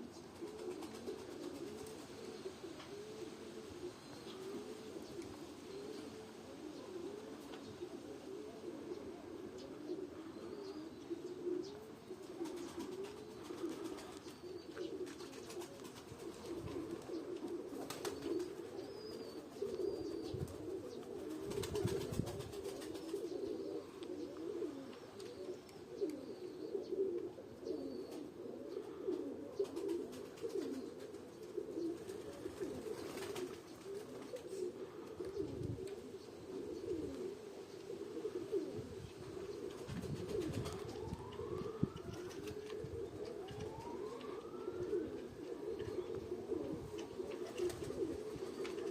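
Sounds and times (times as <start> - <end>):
pigeons cooing: 0.0 - 48.9.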